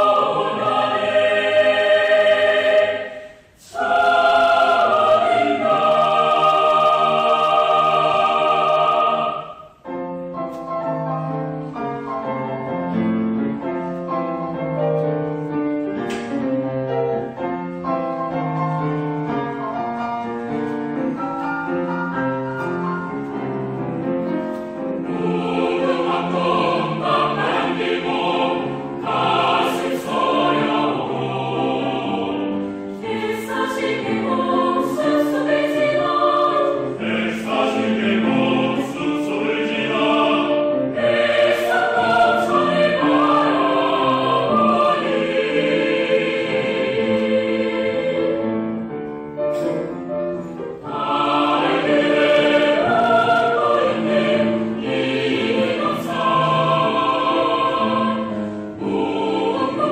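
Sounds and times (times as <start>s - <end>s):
choral singing: 0.0s - 10.7s, 17.2s - 59.9s
piano melody: 3.8s - 59.9s.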